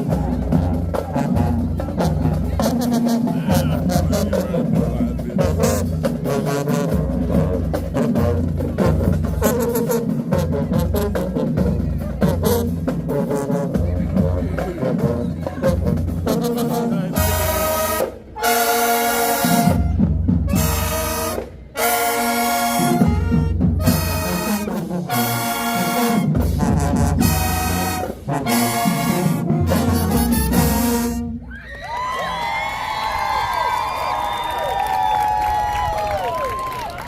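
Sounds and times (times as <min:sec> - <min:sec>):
brass chords: 0:00.0 - 0:31.4
marching band drums: 0:00.0 - 0:31.5.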